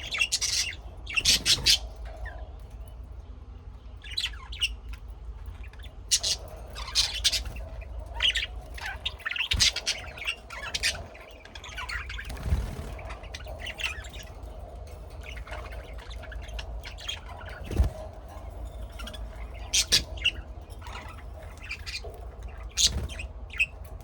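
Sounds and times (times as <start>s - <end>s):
birds chirping and squawking: 0.0s - 24.0s
faint hum: 0.0s - 24.0s.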